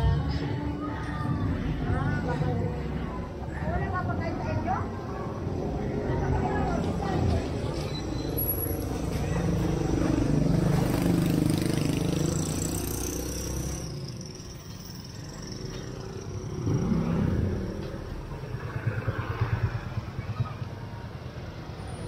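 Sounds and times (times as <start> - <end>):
vehicle engine passing: 1.6 - 22.0.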